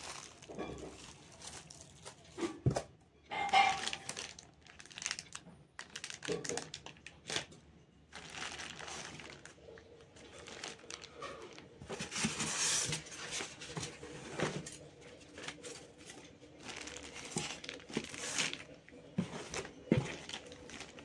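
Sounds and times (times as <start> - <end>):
packaging crinkling: 0.0 - 21.0.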